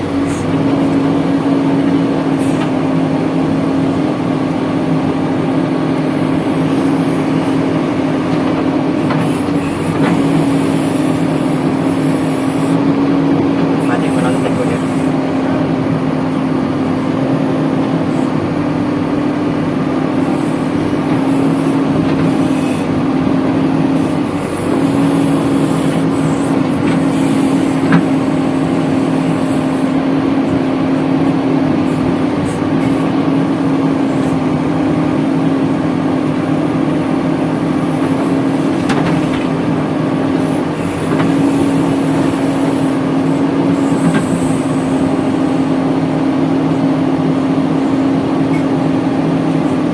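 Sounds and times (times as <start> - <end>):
diesel engine running at high revs: 0.0 - 49.9.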